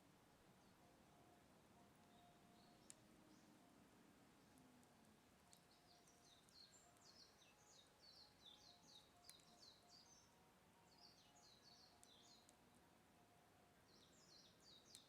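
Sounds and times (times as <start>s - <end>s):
faint songbird chirping: 0.0s - 15.0s.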